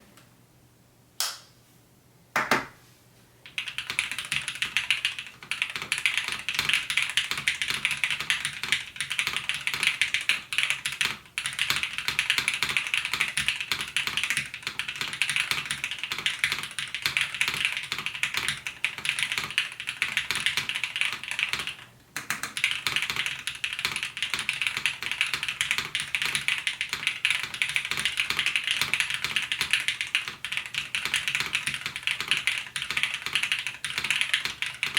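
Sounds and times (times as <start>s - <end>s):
mechanical keyboard typing: 3.5s - 34.9s.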